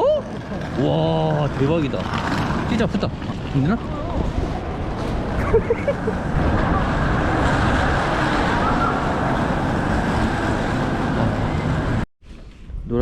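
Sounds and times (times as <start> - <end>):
vehicle travel rumble: 0.0 - 13.0.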